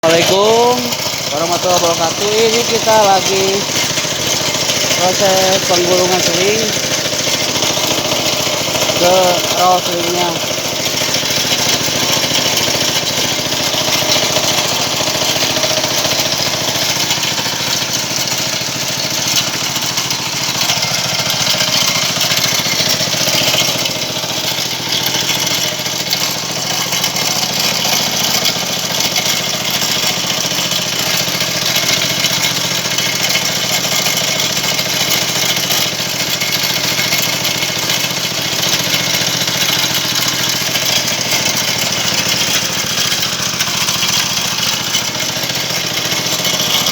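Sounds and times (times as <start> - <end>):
small engine running: 0.0 - 46.9
wire rope winding onto winch: 0.0 - 46.9.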